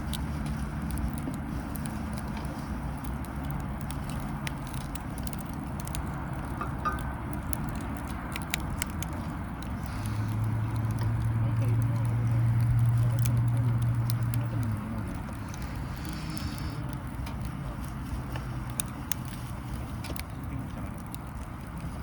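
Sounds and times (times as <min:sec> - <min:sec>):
wood fire crackling and popping: 0:00.0 - 0:22.0
faint distant voices: 0:00.1 - 0:22.0.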